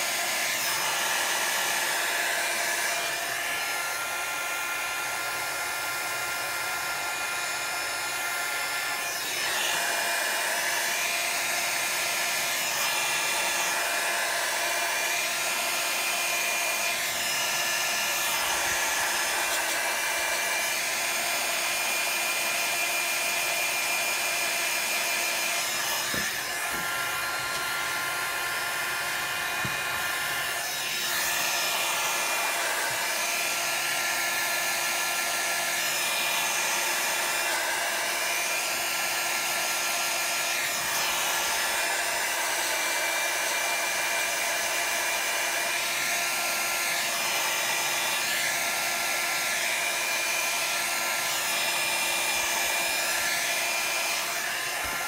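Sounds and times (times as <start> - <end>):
electric blower running: 0.0 - 55.0.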